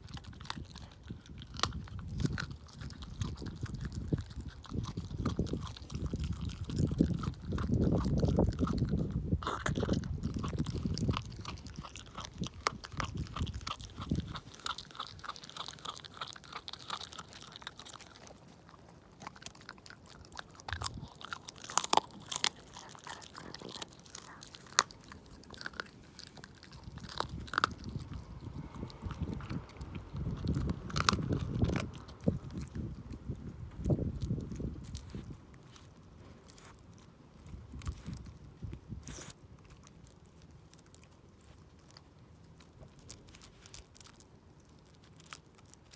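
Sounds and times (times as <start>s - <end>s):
dog crunching bones: 0.0s - 45.9s.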